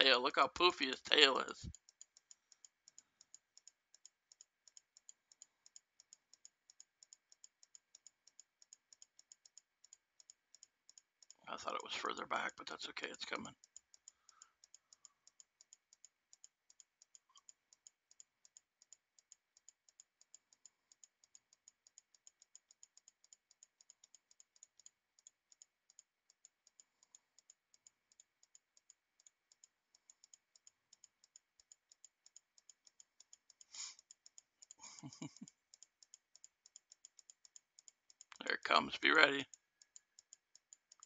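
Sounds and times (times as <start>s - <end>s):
faint regular clicking: 0.0s - 41.0s.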